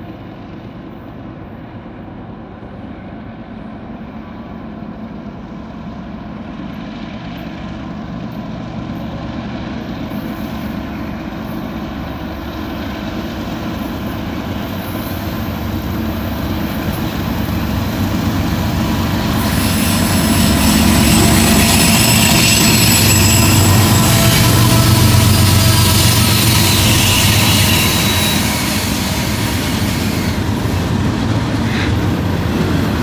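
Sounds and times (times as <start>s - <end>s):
diesel locomotive engines rumbling: 0.0s - 33.0s.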